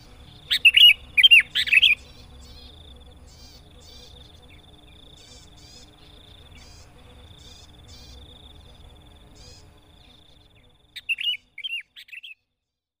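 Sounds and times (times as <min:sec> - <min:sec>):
bird buzzy trill and chirps: 0:00.0 - 0:12.5.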